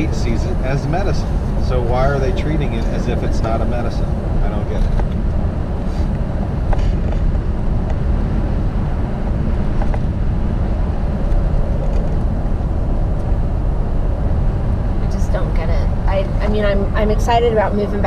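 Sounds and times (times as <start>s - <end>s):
vehicle road and engine noise: 0.0s - 18.0s.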